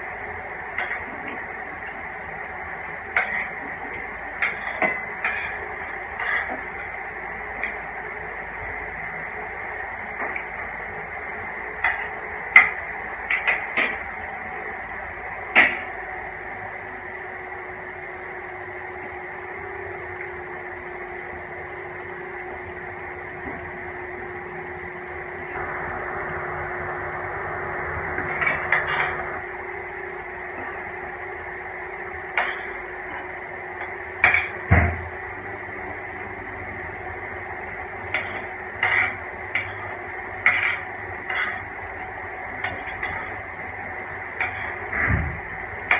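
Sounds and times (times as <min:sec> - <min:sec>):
background hum and hiss: 0:00.0 - 0:45.9.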